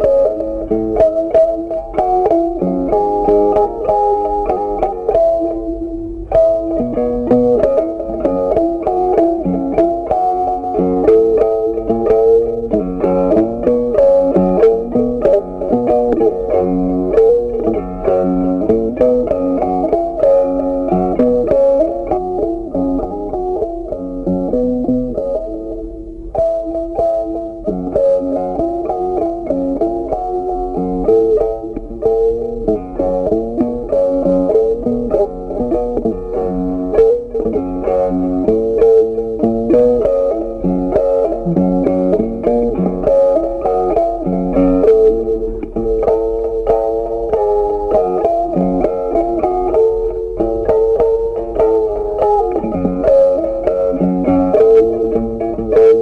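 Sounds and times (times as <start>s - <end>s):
plucked string instrument melody: 0.0s - 56.0s.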